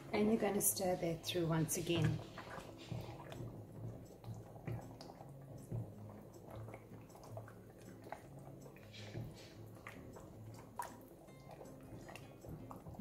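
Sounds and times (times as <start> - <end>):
spatula stirring food squelching: 0.3 - 13.0.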